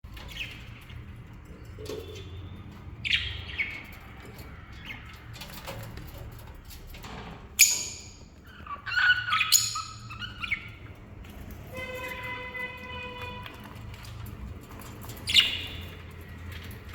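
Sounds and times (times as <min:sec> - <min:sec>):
lovebirds chirping and squawking: 0:00.1 - 0:16.9.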